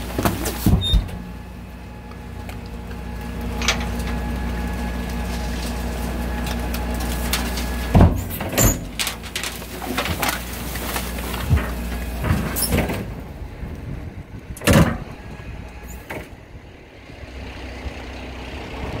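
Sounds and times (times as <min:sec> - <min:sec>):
garbage truck humming: 0:00.0 - 0:19.0.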